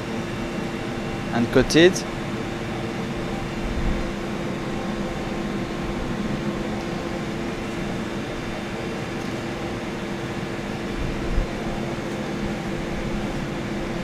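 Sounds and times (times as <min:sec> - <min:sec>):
ventilation fan humming: 0:00.0 - 0:14.0.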